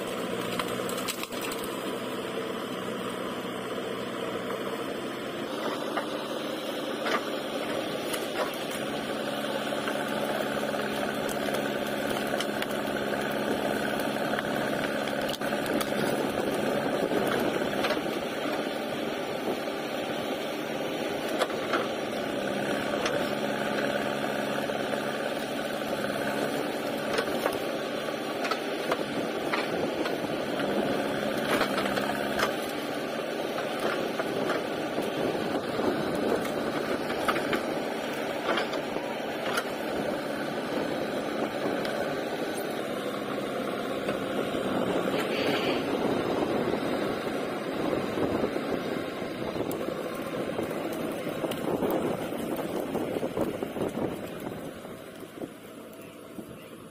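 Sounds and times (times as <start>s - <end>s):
roots and branches cracking: 0.0s - 2.3s, 5.4s - 56.9s
diesel engine running: 0.0s - 56.9s.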